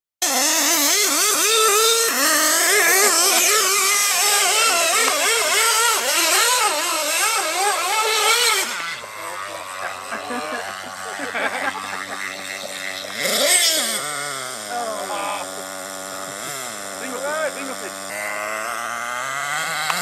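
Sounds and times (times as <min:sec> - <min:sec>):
rc car motor revving: 0:00.2 - 0:20.0.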